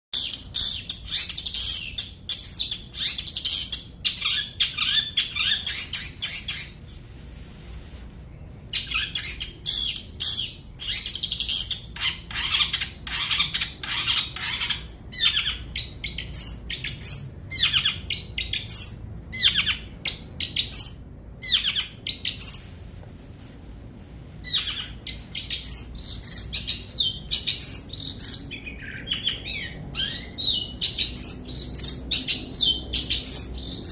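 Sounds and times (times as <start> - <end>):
bird singing chirps and warbles: 0.2 - 6.9, 8.3 - 22.8, 24.4 - 33.9.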